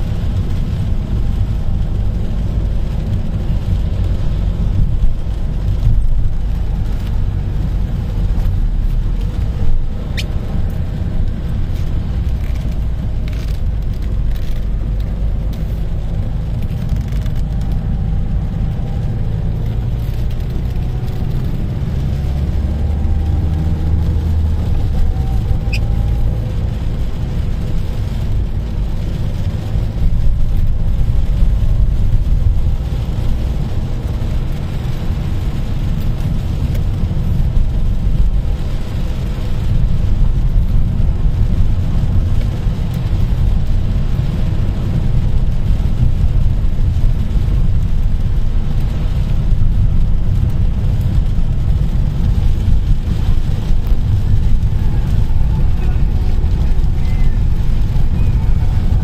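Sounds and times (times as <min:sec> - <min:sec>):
engine and road rumble: 0:00.0 - 0:59.0
tyres hissing on wet road: 0:00.0 - 0:59.0.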